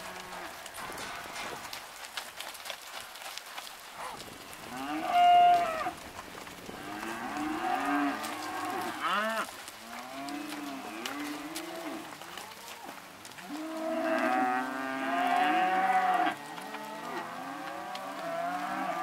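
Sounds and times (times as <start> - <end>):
steers mooing: 0.0 - 1.8, 4.0 - 19.0.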